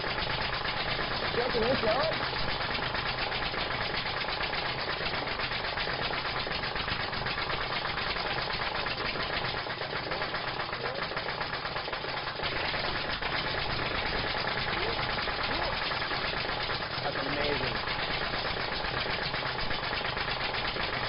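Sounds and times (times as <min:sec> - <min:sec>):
small engine knocking: 0:00.0 - 0:21.0.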